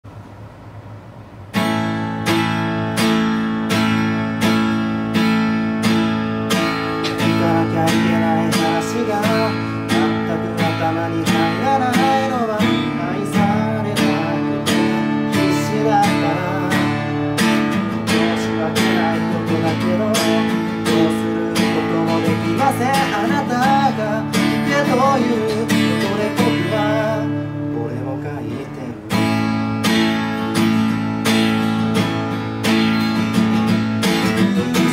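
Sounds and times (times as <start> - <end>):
acoustic guitar strumming: 0.4 - 34.9.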